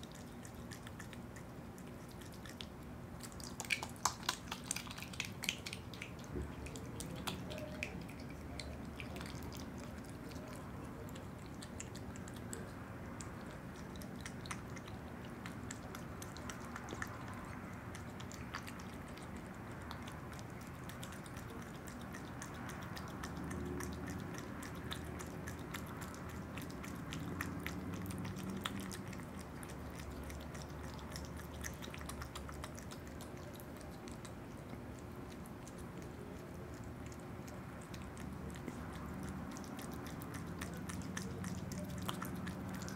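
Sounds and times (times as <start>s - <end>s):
small mouth clicks of eating: 0.0s - 42.9s.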